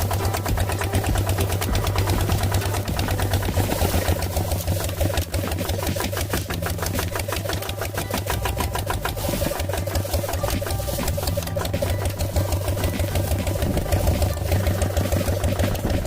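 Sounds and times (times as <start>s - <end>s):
fast even ticking: 0.0s - 16.0s
small motor humming: 0.0s - 16.0s.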